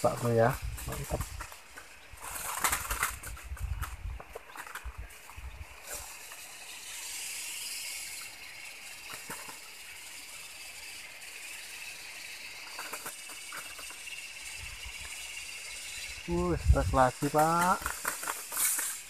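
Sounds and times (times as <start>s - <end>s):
insect chorus hissing: 0.0s - 19.0s.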